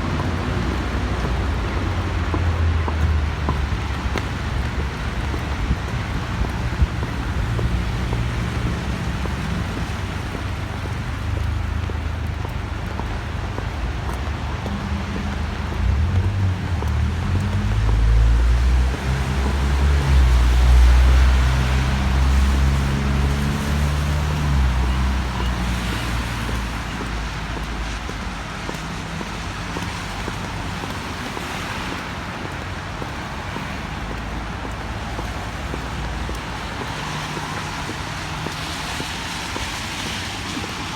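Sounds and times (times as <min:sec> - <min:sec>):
tyres hissing on wet road: 0:00.0 - 0:40.9.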